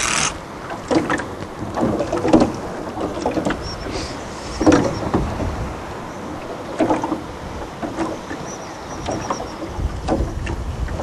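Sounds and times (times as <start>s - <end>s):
water slapping against boat hull: 0.0s - 11.0s.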